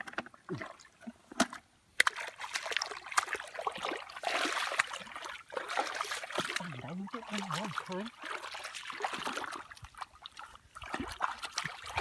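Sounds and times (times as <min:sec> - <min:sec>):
muddy water sloshing and splashing: 0:00.0 - 0:12.0.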